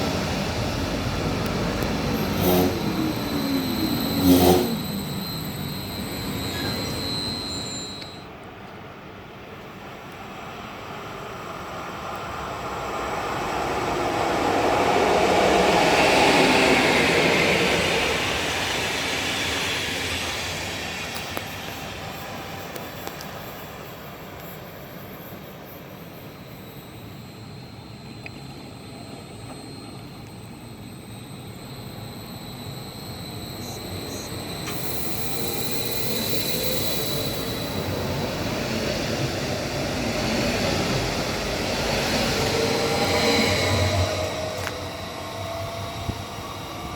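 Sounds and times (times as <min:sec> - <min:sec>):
train rumbling past: 0:00.0 - 0:08.0, 0:09.2 - 0:46.9.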